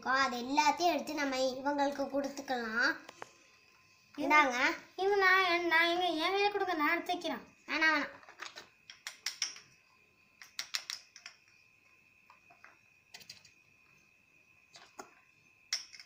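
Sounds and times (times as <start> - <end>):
faint high-pitched whine: 0.0 - 16.0.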